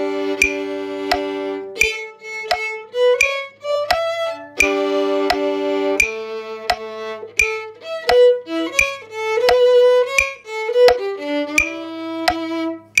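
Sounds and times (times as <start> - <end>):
metronome clicks: 0.0 - 13.0
violin slow melody: 0.0 - 13.0.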